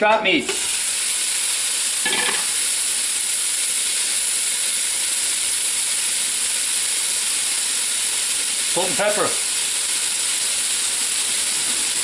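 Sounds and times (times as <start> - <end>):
meat sizzling in a pan: 0.5 - 12.0.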